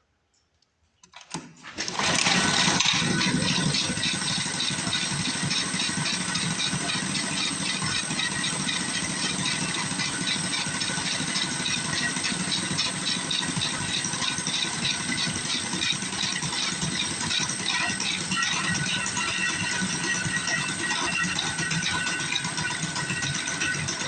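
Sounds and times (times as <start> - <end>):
small engine idling with rattle: 1.9 - 24.0.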